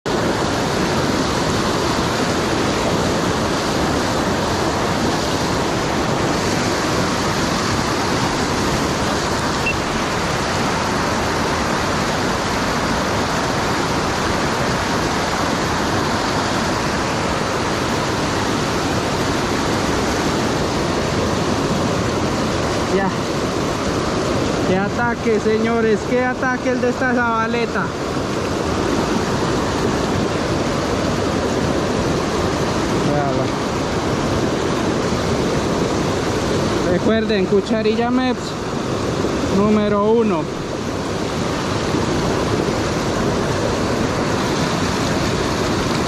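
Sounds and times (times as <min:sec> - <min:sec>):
river water rushing: 0:00.1 - 0:46.0.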